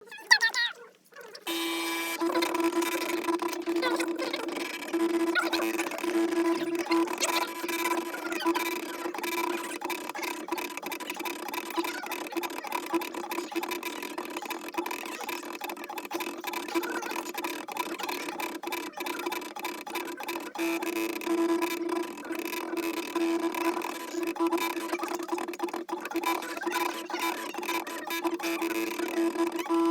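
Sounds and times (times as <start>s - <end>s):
fast irregular clicking: 1.5s - 29.9s
stepper motors whining: 1.5s - 29.9s.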